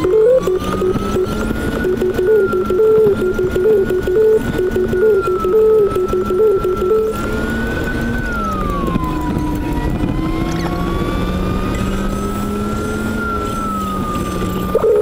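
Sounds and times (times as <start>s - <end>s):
car engine whine: 0.0s - 15.0s.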